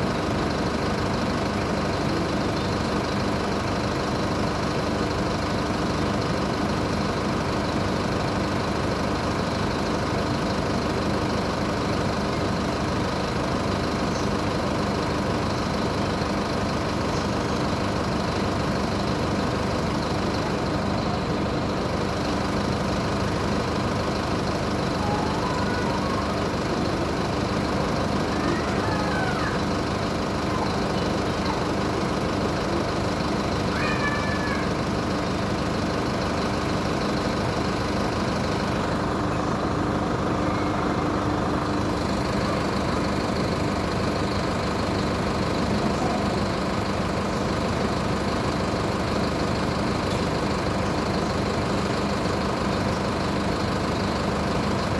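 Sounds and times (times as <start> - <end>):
bus diesel engine idling: 0.0 - 54.9.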